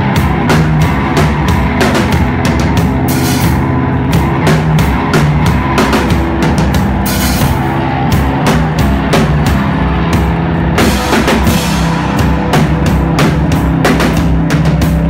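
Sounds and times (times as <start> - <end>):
drum kit played hard: 0.0 - 15.0
loud low electronic drone: 0.0 - 15.0.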